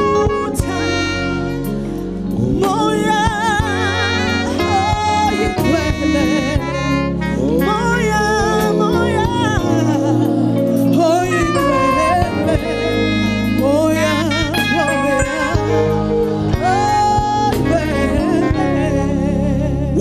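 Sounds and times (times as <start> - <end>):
instrumental accompaniment: 0.0 - 20.0
woman singing gospel: 2.3 - 20.0.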